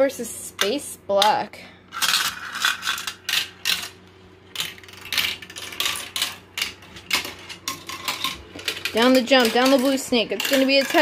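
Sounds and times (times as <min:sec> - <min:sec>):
marbles rattling down plastic track: 0:01.9 - 0:11.0.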